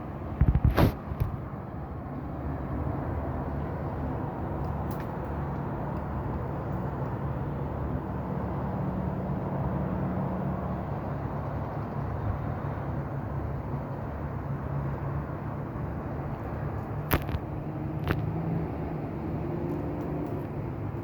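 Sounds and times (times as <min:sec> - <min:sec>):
distant traffic: 0:00.0 - 0:21.0
wind: 0:00.0 - 0:21.0.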